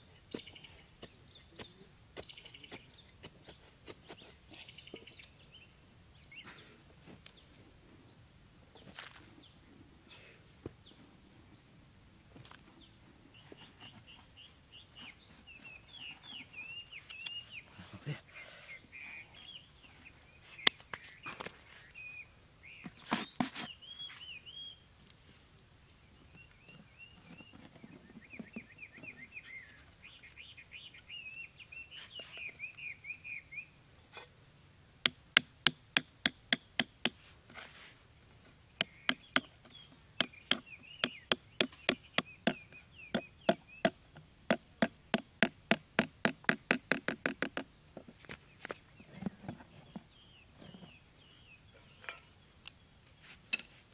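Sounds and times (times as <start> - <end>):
small birds chirping: 0.0 - 34.4, 35.4 - 53.9.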